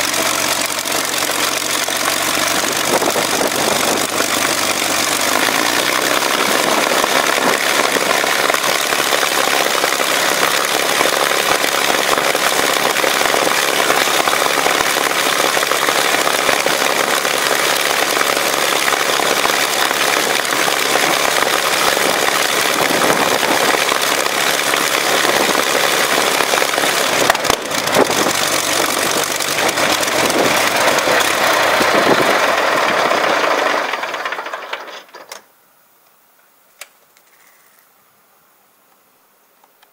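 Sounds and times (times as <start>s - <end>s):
aero engine running steadily: 0.0s - 34.9s
sharp crack: 0.7s - 35.1s.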